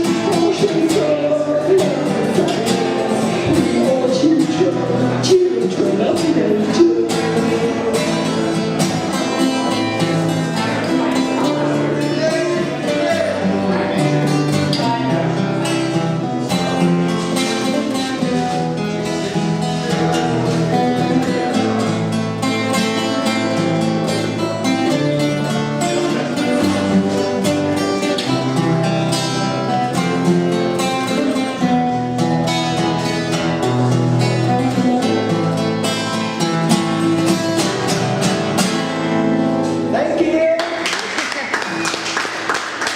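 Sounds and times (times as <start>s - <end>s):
acoustic guitar playing: 0.0s - 40.8s.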